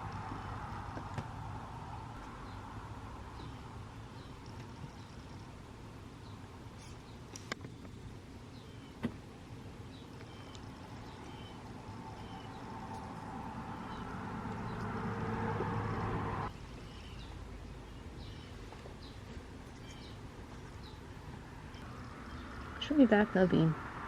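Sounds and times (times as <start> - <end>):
small birds chirping: 2.2 - 15.3, 16.4 - 23.8.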